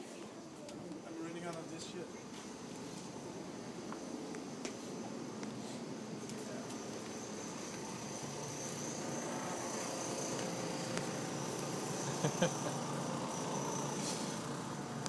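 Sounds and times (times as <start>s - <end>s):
store background noise: 0.0s - 15.0s
high-pitched whine: 0.8s - 15.0s.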